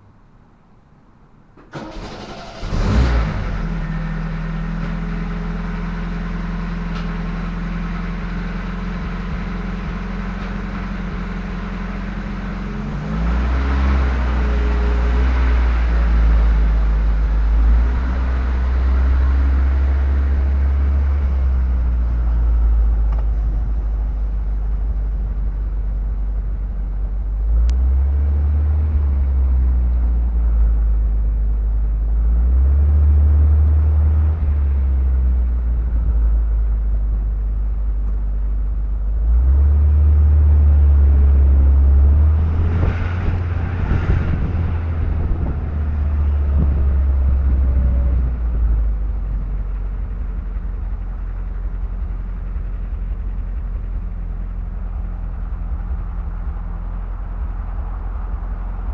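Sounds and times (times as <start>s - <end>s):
car engine idling: 0.0s - 58.9s
car engine cranking and starting: 1.5s - 58.9s.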